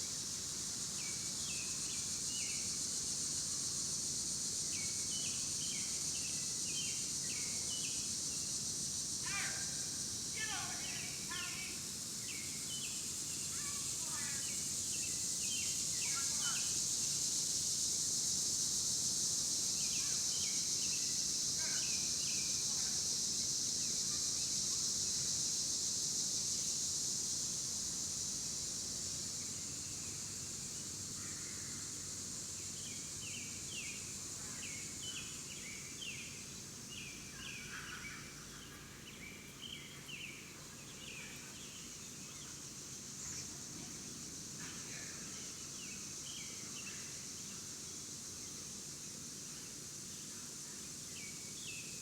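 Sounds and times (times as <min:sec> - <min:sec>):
steady high hiss or buzz: 0:00.0 - 0:52.0.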